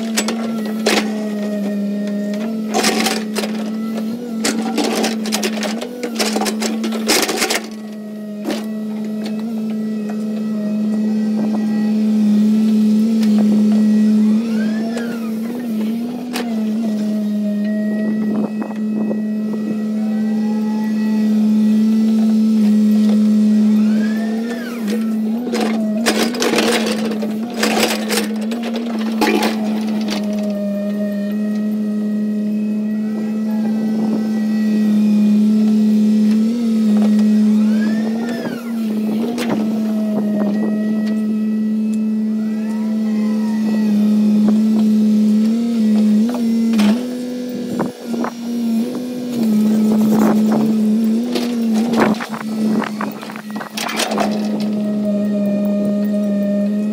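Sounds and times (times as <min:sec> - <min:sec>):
excavator diesel engine running: 0:00.0 - 0:56.9
hydraulic whine: 0:00.0 - 0:56.9.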